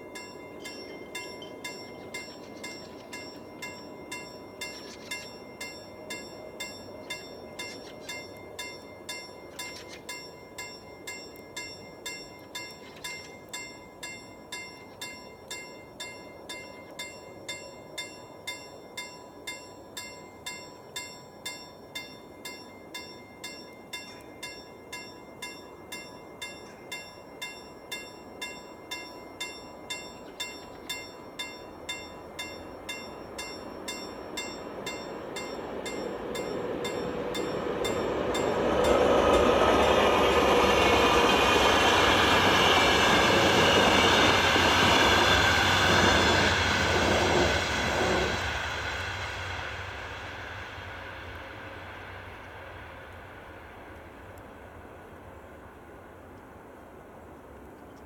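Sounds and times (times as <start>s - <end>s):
train passing with wheel noise: 0.0s - 58.0s.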